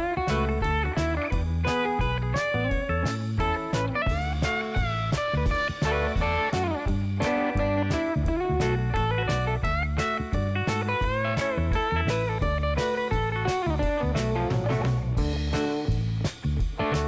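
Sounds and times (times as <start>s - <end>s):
bass: 0.0s - 17.0s
blues guitar with sliding notes: 0.0s - 17.0s
steady beat: 0.0s - 17.0s.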